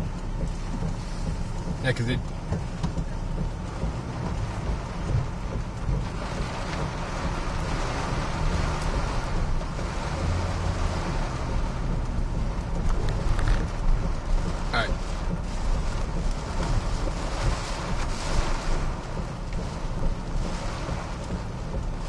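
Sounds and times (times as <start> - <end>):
deep continuous vehicle rumble: 0.0 - 22.0
wind and heavy rain rushing: 0.0 - 22.0.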